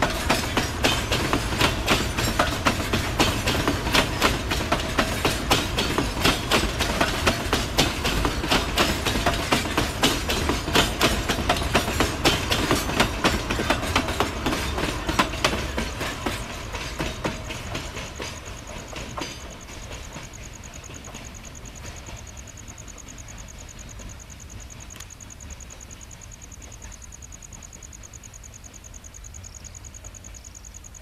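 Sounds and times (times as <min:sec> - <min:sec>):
train wheels clicking over rail joints: 0:00.0 - 0:31.0.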